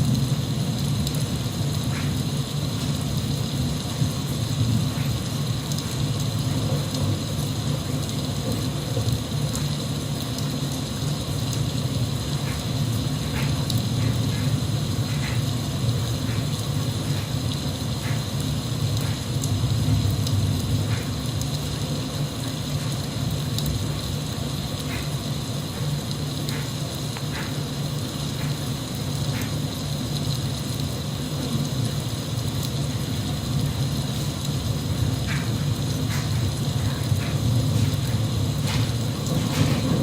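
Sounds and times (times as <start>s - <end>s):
constant low rumble: 0.0s - 40.0s
steady rain: 0.0s - 40.0s.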